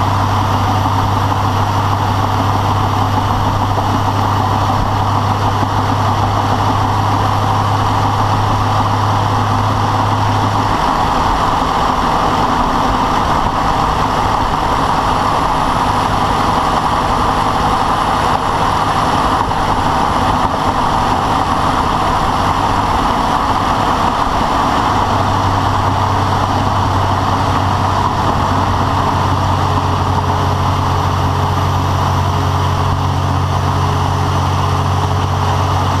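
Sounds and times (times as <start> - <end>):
deep steady hum: 0.0 - 36.0
vehicle engine running: 0.0 - 36.0.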